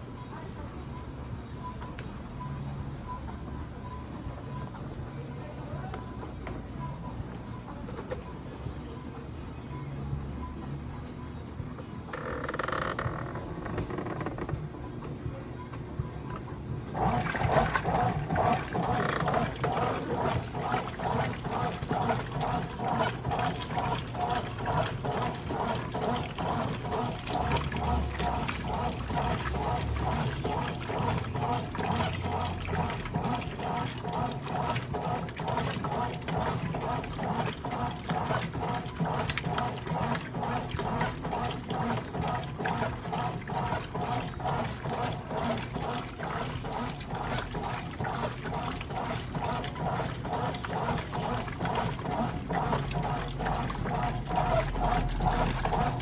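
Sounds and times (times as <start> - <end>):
water splashing in washing machine: 10.3 - 56.0.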